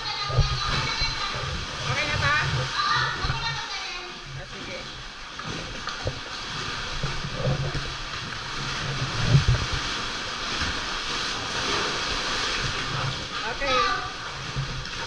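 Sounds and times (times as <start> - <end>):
low water thumps: 0.0 - 15.0
sea water surging over rocks: 0.0 - 15.0.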